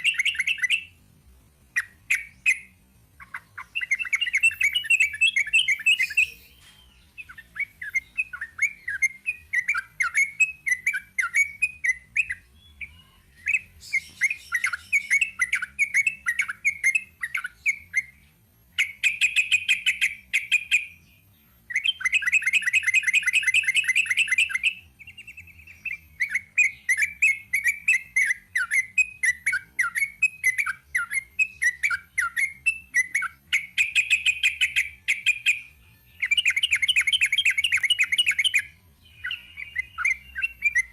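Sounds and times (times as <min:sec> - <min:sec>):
bird chattering song: 0:00.0 - 0:00.9, 0:01.7 - 0:40.9.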